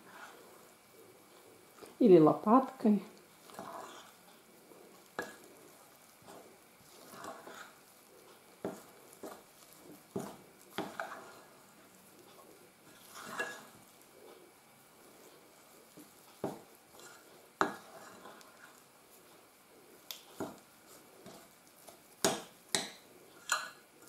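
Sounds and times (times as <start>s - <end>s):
spoon stirring wet dough: 0.0s - 24.0s.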